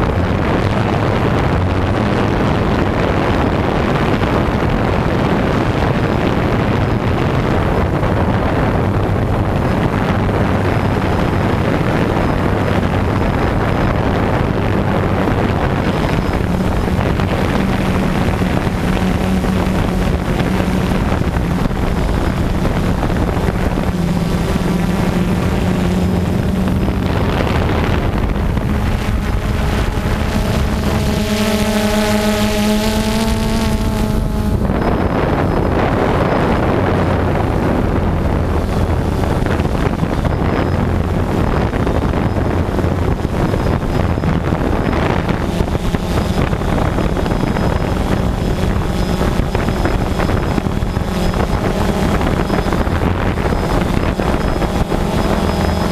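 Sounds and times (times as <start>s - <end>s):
drone propellers buzzing: 0.0s - 55.9s
stronger pitched hum: 0.0s - 55.9s
wind buffeting microphone: 0.0s - 55.9s.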